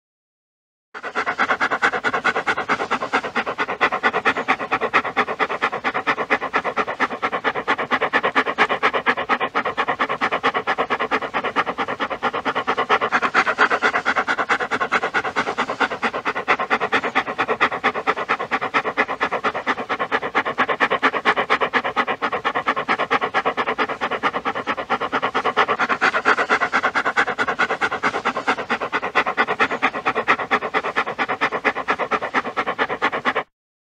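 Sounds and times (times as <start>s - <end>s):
dog panting: 1.0s - 33.5s.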